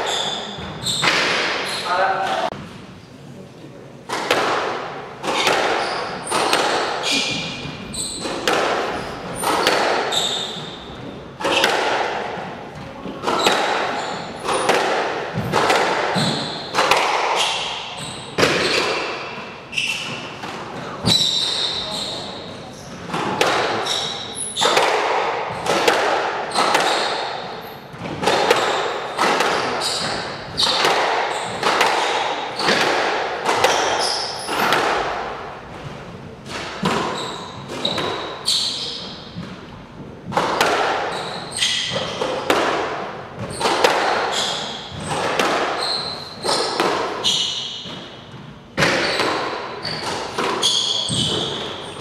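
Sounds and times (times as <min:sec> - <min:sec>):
squash ball hit by rackets: 0:00.0 - 0:01.7, 0:04.1 - 0:21.8, 0:22.9 - 0:52.0
shoes squeaking on court floor: 0:00.0 - 0:02.7, 0:05.2 - 0:11.8, 0:12.7 - 0:14.8, 0:15.4 - 0:24.9, 0:26.4 - 0:35.2, 0:36.8 - 0:39.4, 0:41.0 - 0:42.5, 0:43.4 - 0:52.0.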